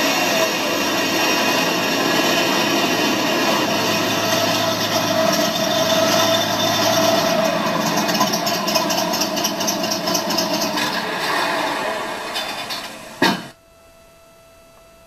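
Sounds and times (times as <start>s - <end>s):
simulated tank engine through speaker: 0.0s - 13.5s.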